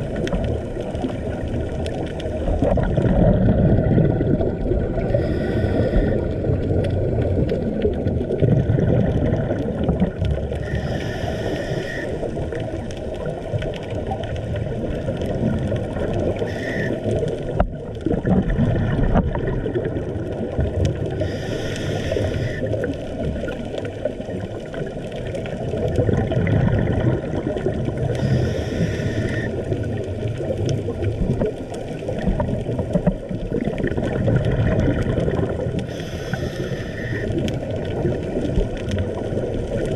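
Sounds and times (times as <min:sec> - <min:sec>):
scuba regulator breathing bubbles: 0:00.0 - 0:13.2, 0:14.6 - 0:23.6, 0:25.7 - 0:31.4, 0:33.5 - 0:39.9
low underwater rumble: 0:00.0 - 0:39.9.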